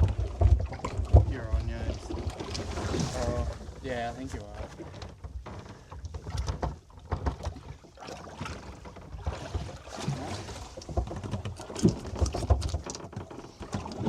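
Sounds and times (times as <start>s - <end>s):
hull thumping on water: 0.0s - 14.0s.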